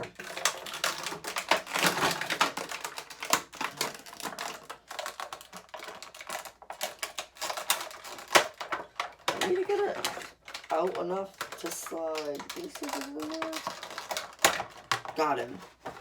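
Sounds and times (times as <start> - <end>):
toy packaging crackling: 0.0 - 16.0.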